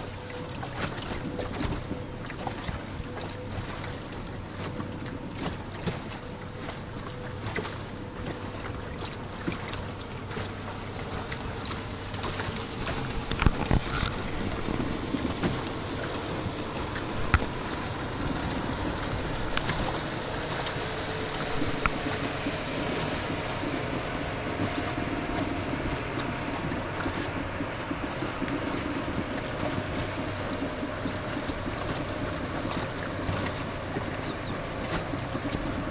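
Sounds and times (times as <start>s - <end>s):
motorboat engine drone: 0.0s - 35.9s
water rushing against hull: 0.0s - 35.9s.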